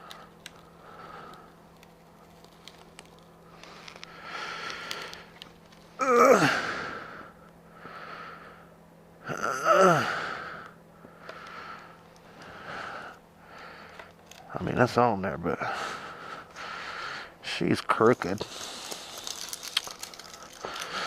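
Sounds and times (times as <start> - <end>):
man breathing heavily: 0.0 - 2.5, 3.4 - 14.4, 15.5 - 17.4, 18.4 - 21.0.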